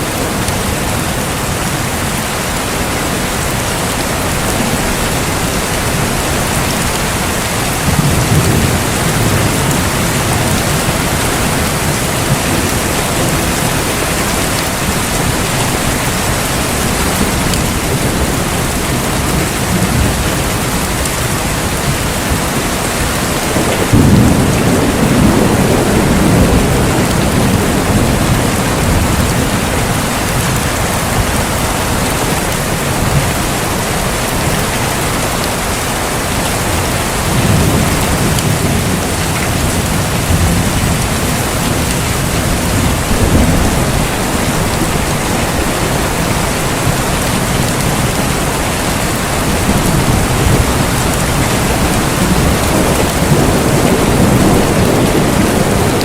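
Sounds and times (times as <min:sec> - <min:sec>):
heavy rain: 0:00.0 - 0:56.0
rolling thunder: 0:03.4 - 0:34.7, 0:36.8 - 0:56.0.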